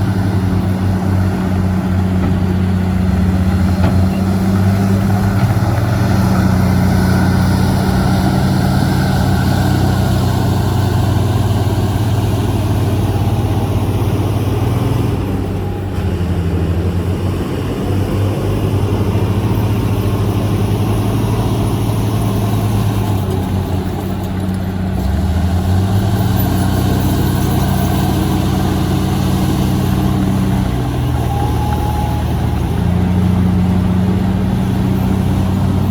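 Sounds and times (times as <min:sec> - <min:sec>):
heavy diesel engines working: 0:00.0 - 0:35.9.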